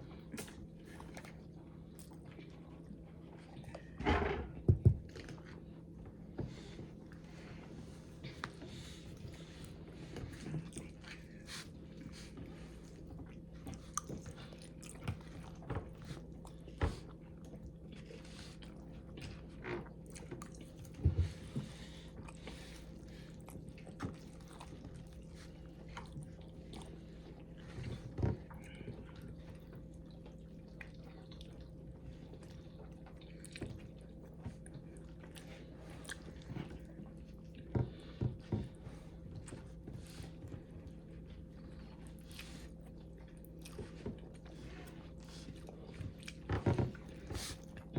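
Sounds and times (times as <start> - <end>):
person chewing and eating noodles: 4.7 - 47.9.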